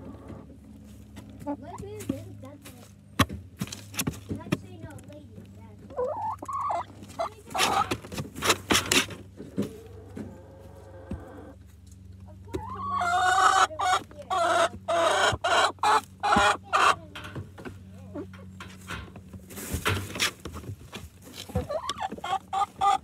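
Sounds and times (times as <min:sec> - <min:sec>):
hens clucking: 0:00.0 - 0:02.2, 0:04.3 - 0:23.0.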